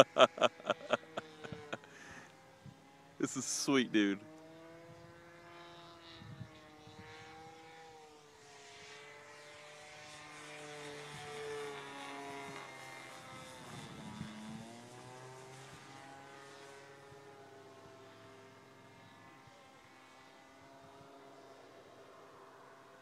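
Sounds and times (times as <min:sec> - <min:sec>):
model plane engine drone: 0:00.0 - 0:23.0.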